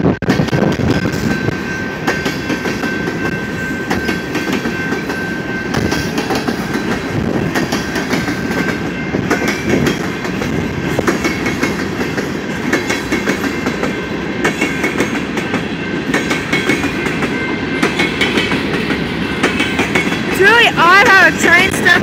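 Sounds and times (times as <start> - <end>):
freight train rumble: 0.0 - 22.0
wheels clacking over rail joints: 0.3 - 22.0.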